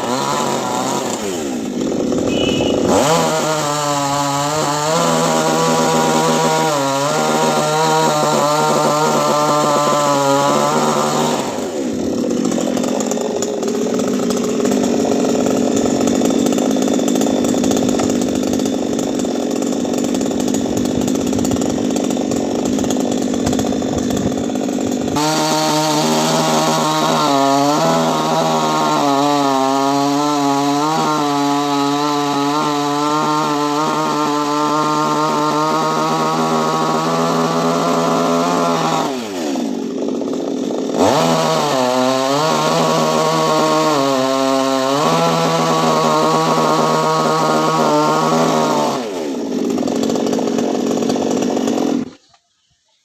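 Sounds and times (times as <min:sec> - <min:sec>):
chainsaw cutting wood: 0:00.0 - 0:52.6.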